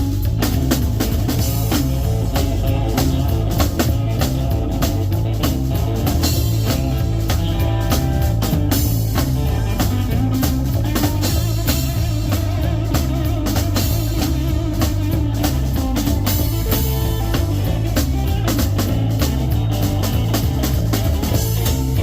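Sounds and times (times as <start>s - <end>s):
bass line: 0.0s - 22.0s
drum kit beat: 0.0s - 22.0s
electric guitar: 0.0s - 22.0s.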